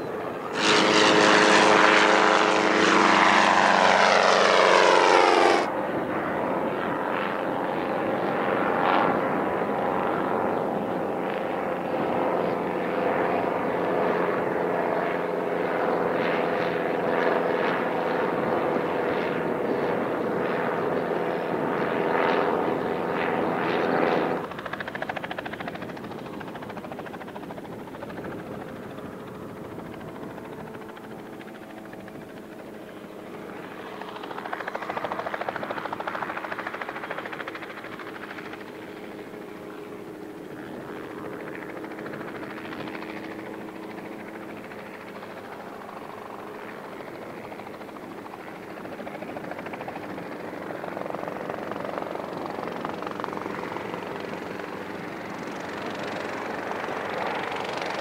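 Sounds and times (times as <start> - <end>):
biplane engine: 0.0 - 58.0
helicopter: 0.0 - 58.0.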